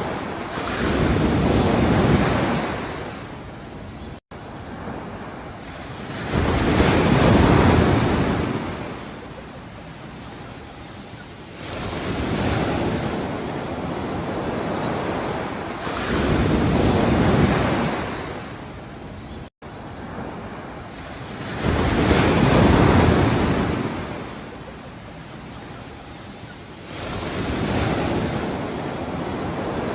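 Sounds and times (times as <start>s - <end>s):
ocean waves breaking on shore: 0.0s - 29.9s.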